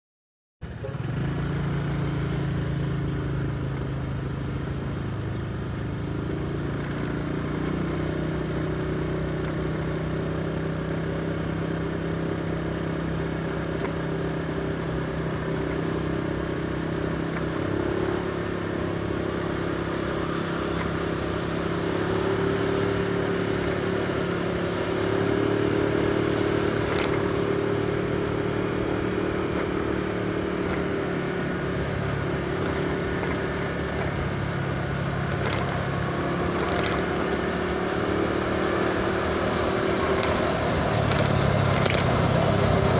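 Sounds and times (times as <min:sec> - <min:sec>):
road noise: 0:00.6 - 0:42.9
vehicle engine droning: 0:00.6 - 0:42.9.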